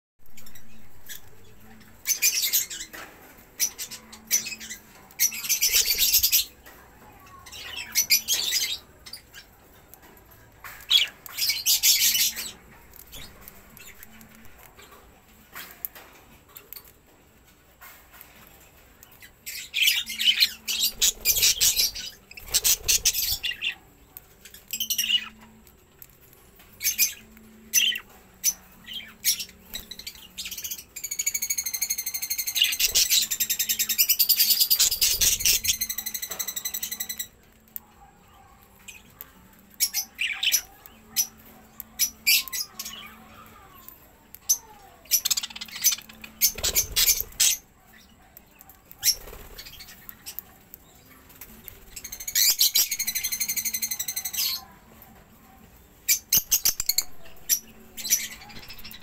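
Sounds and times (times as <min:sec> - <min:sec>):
budgerigars chirping and warbling: 0:00.3 - 0:15.1, 0:19.1 - 0:23.9, 0:24.5 - 0:25.5, 0:26.6 - 0:37.4, 0:38.1 - 0:43.6, 0:44.4 - 0:54.7, 0:56.1 - 0:59.0.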